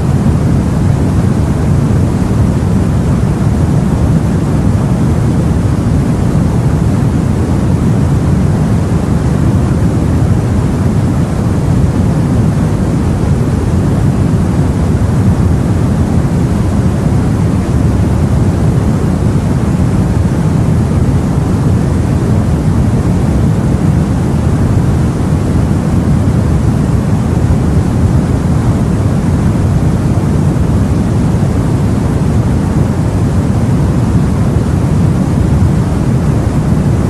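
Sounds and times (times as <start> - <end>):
wind over sea: 0.0 - 37.0.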